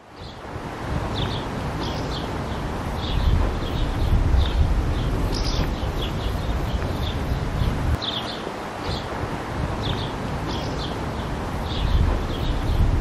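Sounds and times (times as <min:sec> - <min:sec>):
small birds chirping: 0:00.0 - 0:13.0
wind rumble on microphone: 0:00.0 - 0:13.0.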